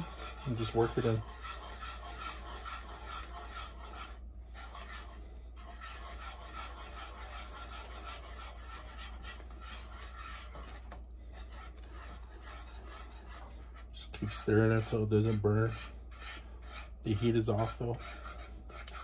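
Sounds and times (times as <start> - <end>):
utensil scraping pot bottom: 0.0 - 19.0.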